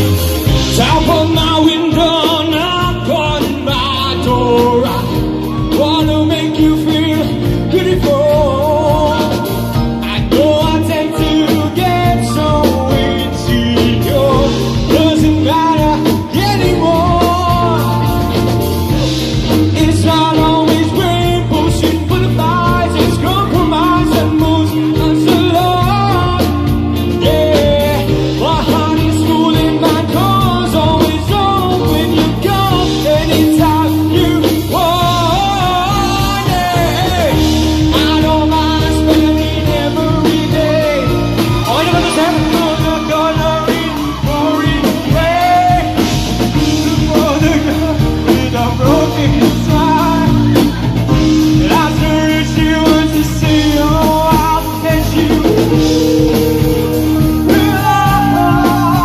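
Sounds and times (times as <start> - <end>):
drum kit: 0.0 - 59.0
electric guitar: 0.0 - 59.0
man singing into microphone: 0.4 - 59.0.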